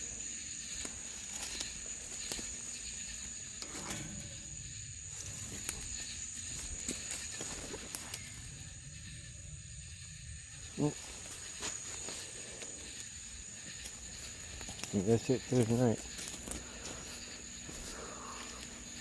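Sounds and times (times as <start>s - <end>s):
faint clicks and rustles: 0.0s - 9.1s, 10.6s - 19.0s
crickets trilling: 0.0s - 19.0s.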